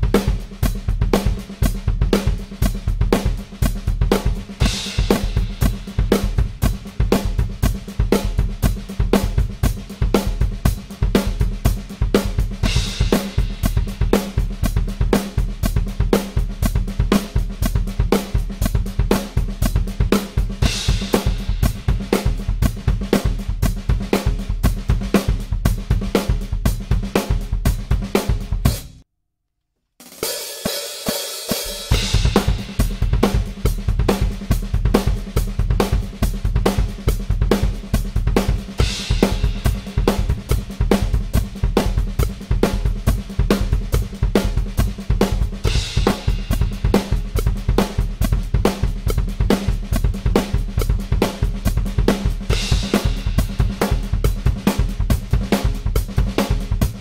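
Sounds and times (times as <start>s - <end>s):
drum kit groove: 0.0s - 29.0s, 30.0s - 57.0s.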